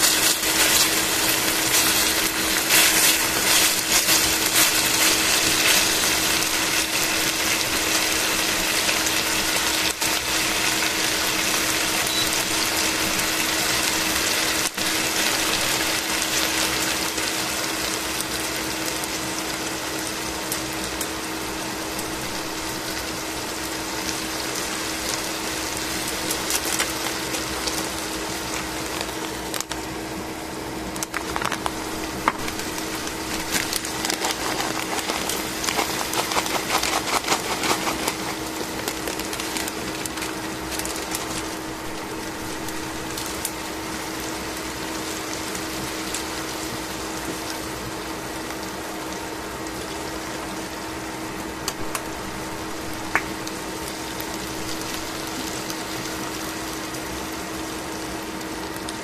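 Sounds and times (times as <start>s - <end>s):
chicken sizzling in oil: 0.0s - 59.0s
crackling and clicks of fried onion: 0.0s - 59.0s.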